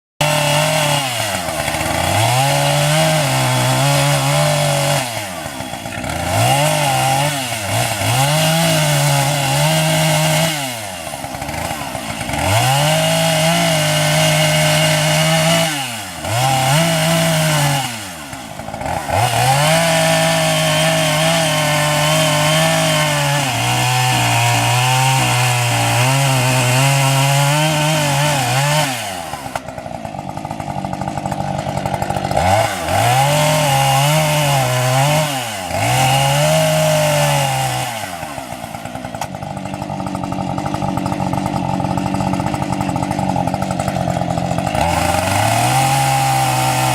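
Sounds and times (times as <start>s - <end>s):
chainsaw cutting wood: 0.2s - 46.9s.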